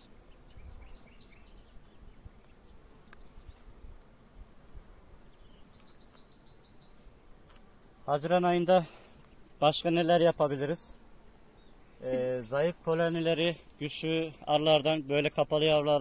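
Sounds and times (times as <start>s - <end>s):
honeybees humming: 0.0s - 16.0s.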